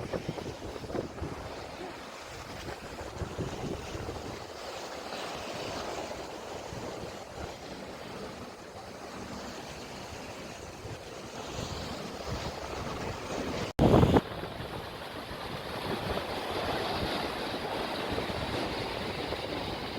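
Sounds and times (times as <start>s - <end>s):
sea waves washing on shore: 0.0s - 19.9s
wind buffeting microphone: 0.0s - 19.9s.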